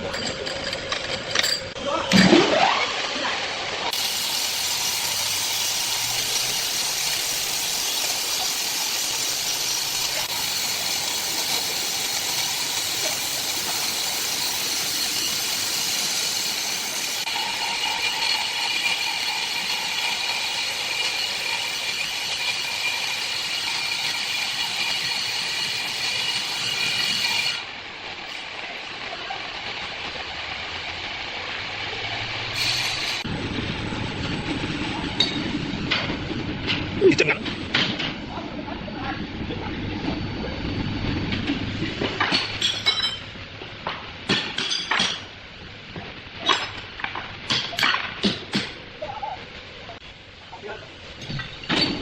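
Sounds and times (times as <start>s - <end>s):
woodworking machinery whirring: 0.0s - 42.7s.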